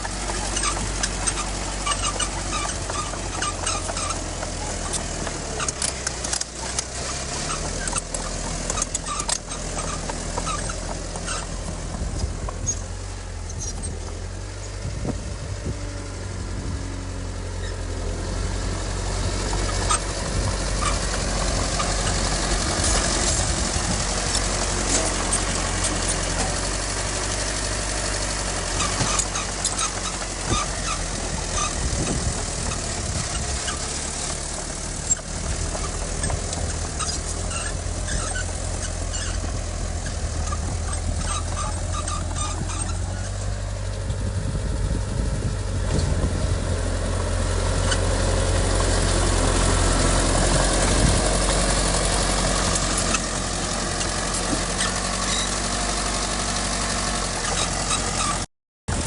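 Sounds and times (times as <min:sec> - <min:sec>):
heavy machinery droning: 0:00.0 - 0:59.0.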